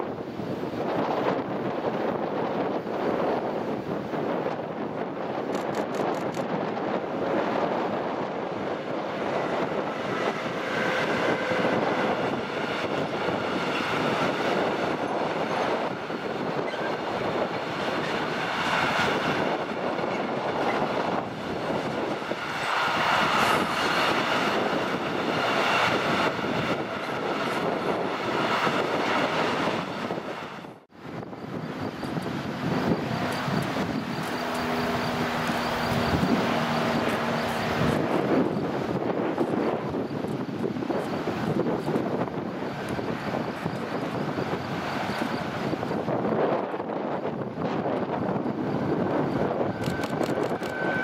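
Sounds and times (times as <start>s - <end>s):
freight train wheels on rails: 0.0s - 51.0s.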